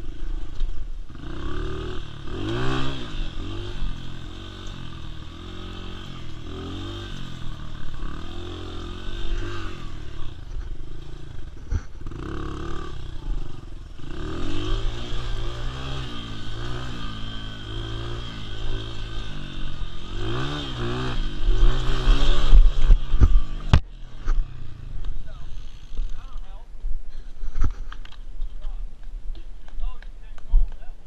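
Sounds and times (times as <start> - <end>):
dirt bike engine revving: 0.0 - 26.4.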